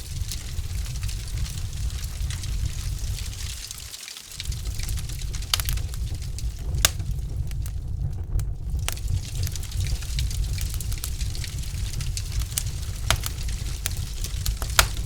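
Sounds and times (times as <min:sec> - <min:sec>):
burning logs popping and snapping: 0:00.0 - 0:15.0
low fire rumble: 0:00.0 - 0:15.0.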